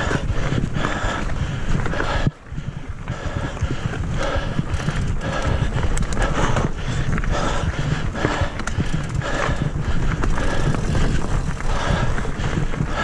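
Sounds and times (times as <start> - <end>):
bike tyres rumbling on dirt: 0.0 - 13.0.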